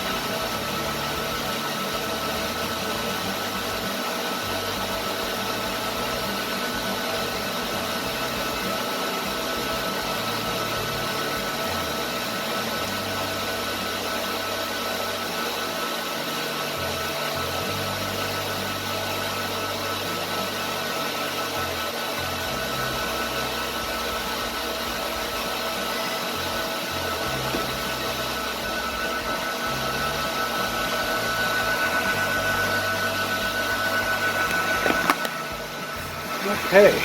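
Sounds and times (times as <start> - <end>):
cooling fans rushing: 0.0 - 37.0
whining tones: 0.0 - 37.0.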